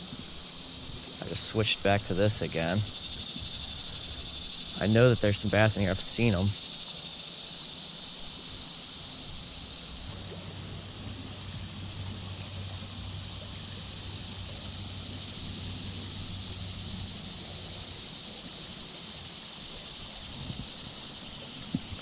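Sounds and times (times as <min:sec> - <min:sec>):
high-pitched insect chorus: 0:00.0 - 0:22.0
shallow creek water flowing: 0:00.0 - 0:22.0.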